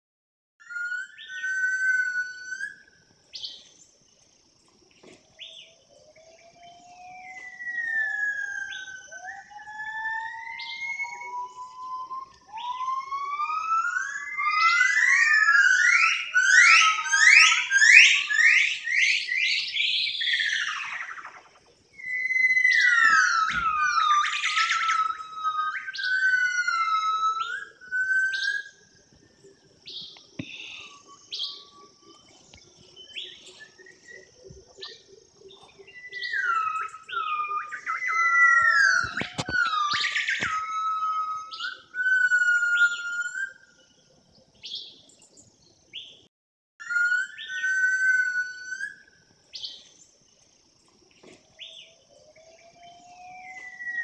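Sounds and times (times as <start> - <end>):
bird song whistles: 0.6 - 3.8, 5.4 - 43.9, 44.6 - 50.0, 51.6 - 54.0.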